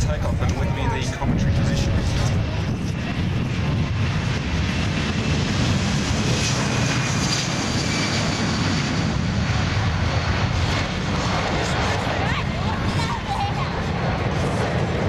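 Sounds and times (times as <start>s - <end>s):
jet engines deep rumble: 0.0s - 15.0s.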